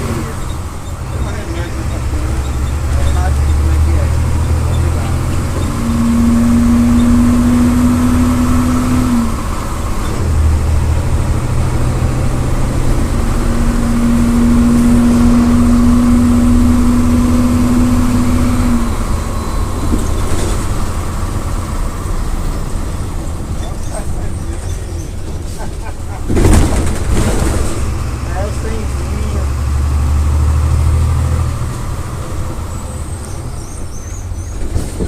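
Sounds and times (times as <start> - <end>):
diesel bus engine rumbling: 0.0 - 35.0.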